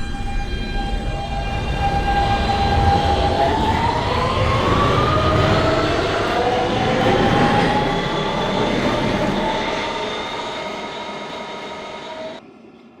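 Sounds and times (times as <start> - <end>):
subway train motor whine: 0.0 - 13.0.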